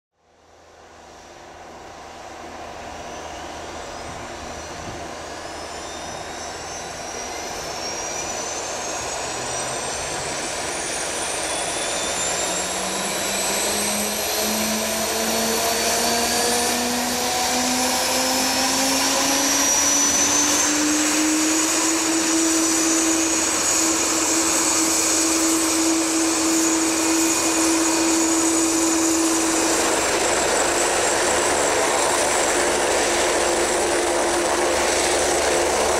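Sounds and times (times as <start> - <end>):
helicopter engines whining: 0.4 - 35.9.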